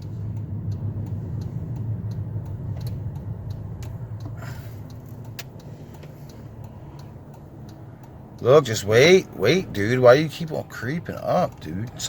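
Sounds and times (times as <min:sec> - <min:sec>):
engine and road rumble: 0:00.0 - 0:12.0
turn signal ticking: 0:00.0 - 0:12.0.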